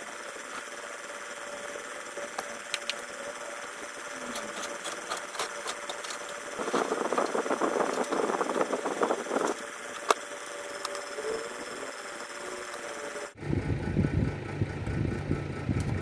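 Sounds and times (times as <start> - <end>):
small mechanism rattling: 0.0 - 13.3.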